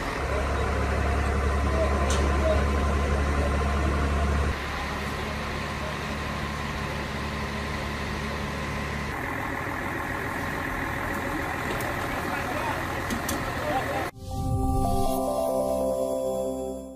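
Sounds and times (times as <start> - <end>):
fire truck engine humming: 0.0 - 16.9.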